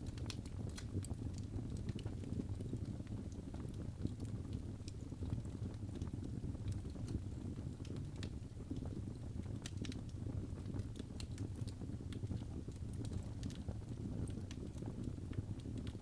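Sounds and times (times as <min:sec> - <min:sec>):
fire crackling: 0:00.0 - 0:16.0
low rumble of flames: 0:00.0 - 0:16.0.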